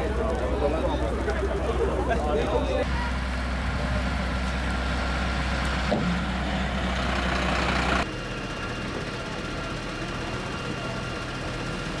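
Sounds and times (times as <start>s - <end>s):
diesel engine rumbling: 0.0s - 12.0s
large fire rushing: 0.0s - 12.0s.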